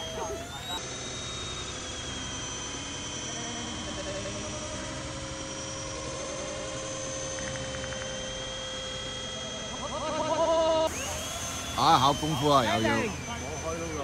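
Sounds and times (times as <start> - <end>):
model jet motor whine: 0.0 - 14.0.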